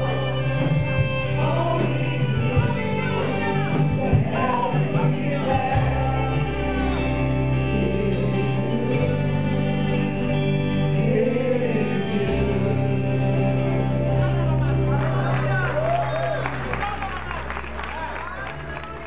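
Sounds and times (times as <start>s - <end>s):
band playing sustained chords: 0.0s - 19.0s
praise team singing: 0.0s - 19.0s.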